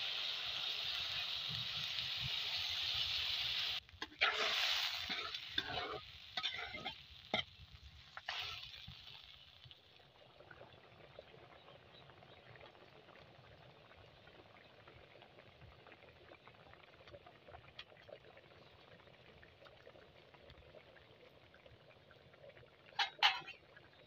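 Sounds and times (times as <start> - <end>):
curry bubbling in a wok: 0.0 - 24.0.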